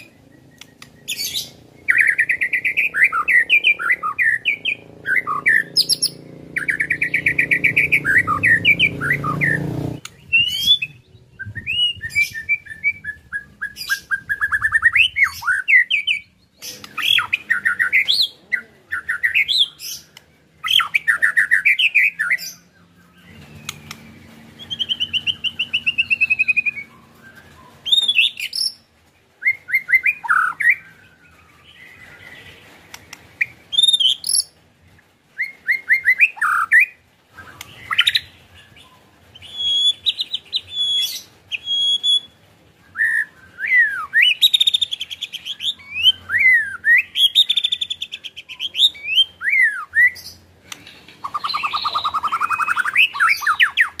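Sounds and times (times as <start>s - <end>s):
songbird whistling and trilling: 0.0s - 18.3s, 19.0s - 34.6s, 35.4s - 50.4s, 51.2s - 54.0s.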